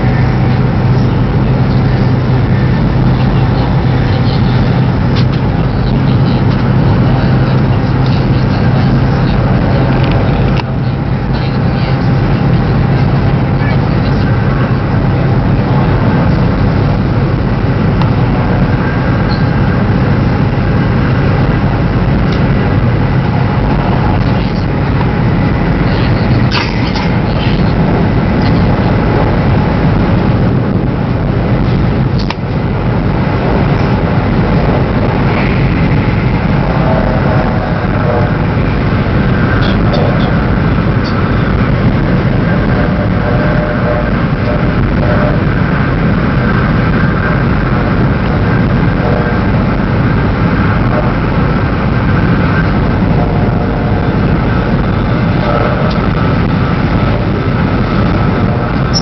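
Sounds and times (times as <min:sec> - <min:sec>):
train carriage running rumble: 0:00.0 - 0:59.0.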